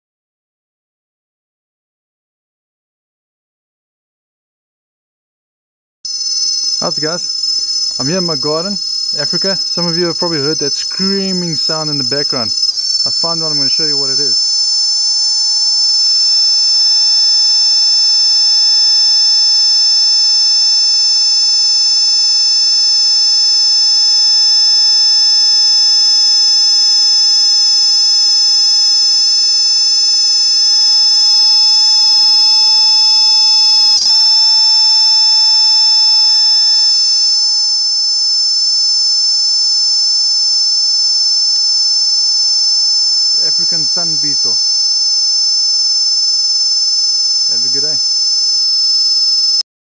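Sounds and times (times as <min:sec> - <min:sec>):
cicada screaming whine: 0:06.1 - 0:49.6.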